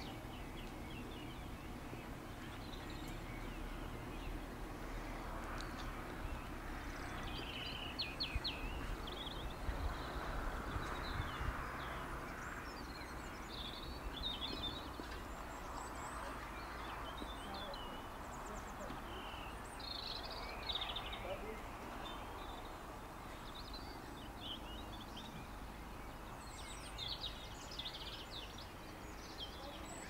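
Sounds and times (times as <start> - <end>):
birds chirping: 0.0 - 30.0
steady outdoor hiss: 0.0 - 30.0.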